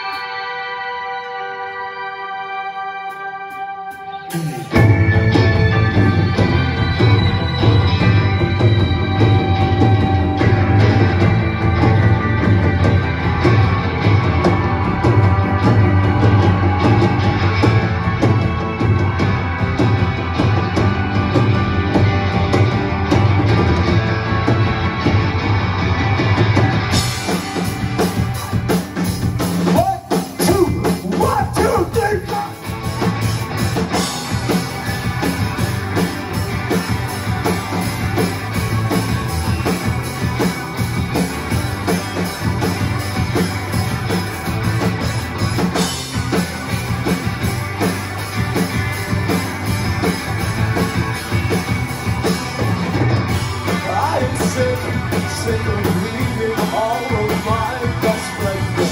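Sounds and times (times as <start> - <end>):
electric guitars: 0.0 - 58.9
drum kit: 3.1 - 58.9
electric bass: 4.1 - 58.9.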